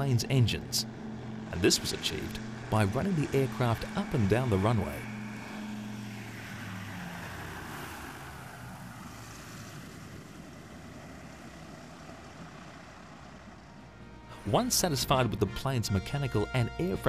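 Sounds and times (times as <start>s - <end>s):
aircraft radial engines droning: 0.0s - 17.0s.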